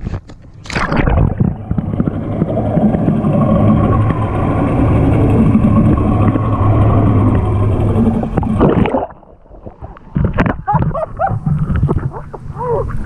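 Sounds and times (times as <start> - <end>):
engine running with low hum: 0.1 - 13.0.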